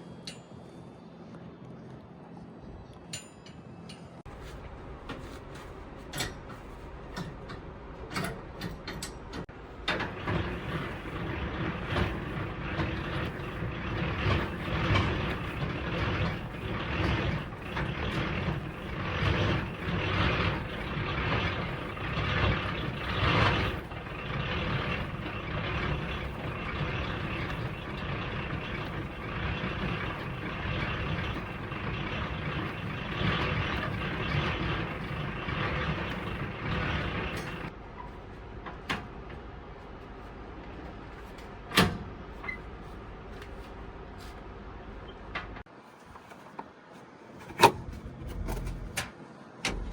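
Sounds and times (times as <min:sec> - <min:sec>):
heavy truck engine rumble: 0:00.0 - 0:49.9.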